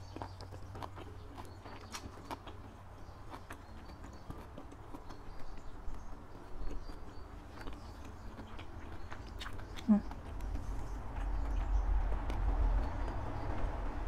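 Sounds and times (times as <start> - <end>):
chewing with wet mouth clicks: 0.0 - 13.9.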